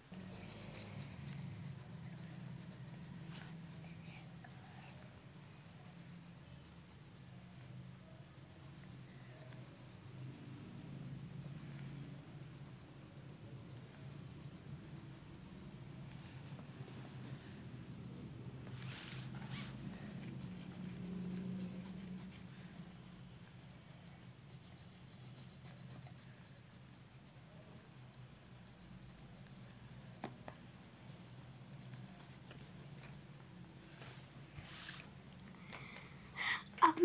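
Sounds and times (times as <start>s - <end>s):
faint low hum: 0.0s - 37.0s
pencil scratching on paper: 0.0s - 37.0s.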